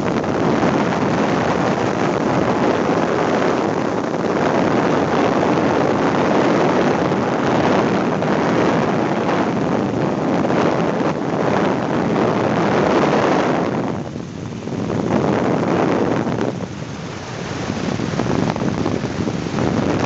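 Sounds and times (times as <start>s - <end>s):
helicopter engine and rotor noise: 0.0s - 20.0s
wind buffeting microphone: 0.0s - 20.0s.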